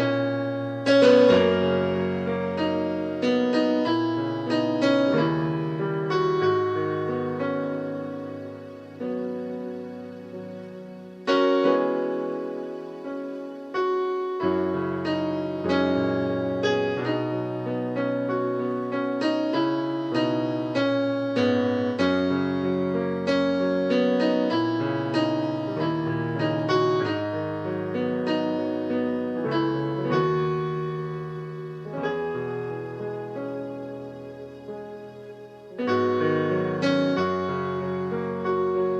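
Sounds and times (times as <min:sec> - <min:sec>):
piano playing slow chords: 0:00.0 - 0:38.9.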